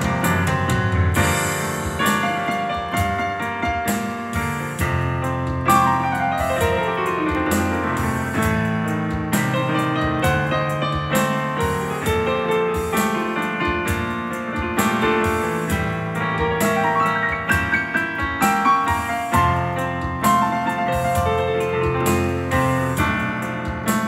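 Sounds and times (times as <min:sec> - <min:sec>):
digital piano playing: 0:00.0 - 0:24.0.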